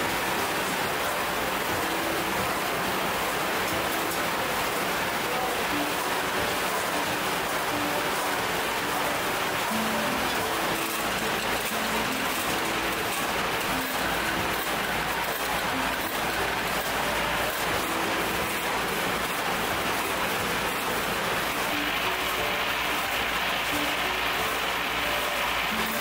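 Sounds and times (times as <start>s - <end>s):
machinery hissing: 0.0s - 26.0s.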